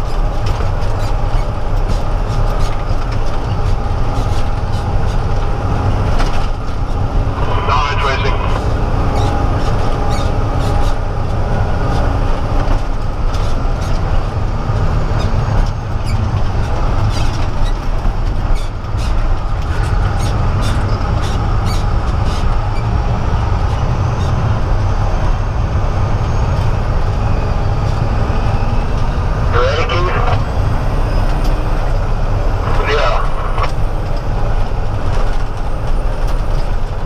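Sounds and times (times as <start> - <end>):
truck diesel engine drone: 0.0 - 37.0.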